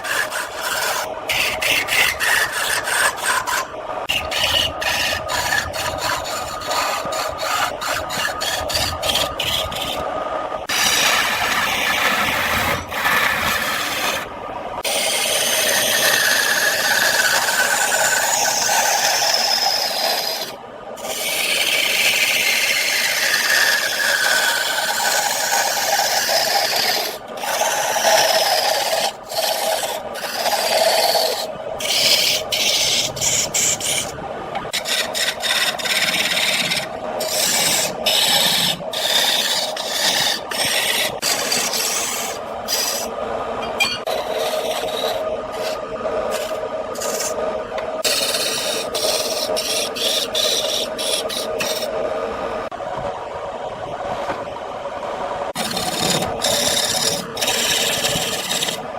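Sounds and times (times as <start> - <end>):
lathe tool scraping wood: 0.0 - 10.0, 10.7 - 43.1, 43.8 - 47.4, 48.0 - 51.9, 55.5 - 58.8.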